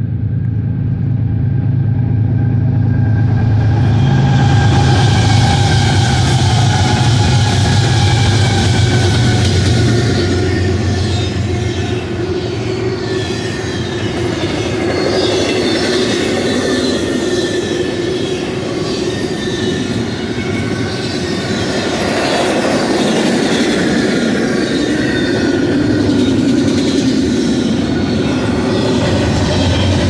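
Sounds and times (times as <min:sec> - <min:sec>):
freight train wheels on rail: 0:00.0 - 0:30.0.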